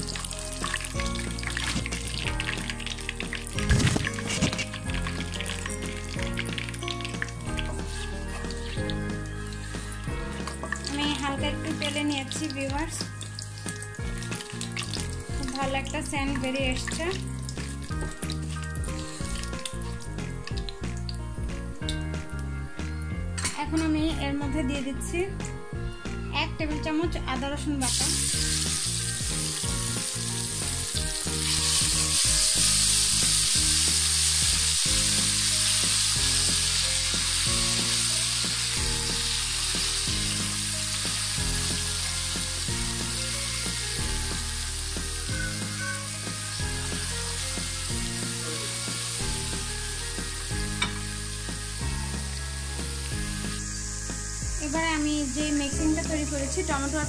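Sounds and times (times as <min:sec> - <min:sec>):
paste sizzling in hot oil: 0:00.0 - 0:20.7, 0:27.8 - 0:57.0.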